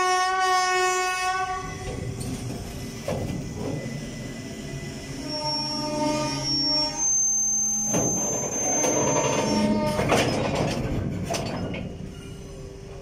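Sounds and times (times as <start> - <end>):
electric locomotive hum and whine: 0.0 - 13.0.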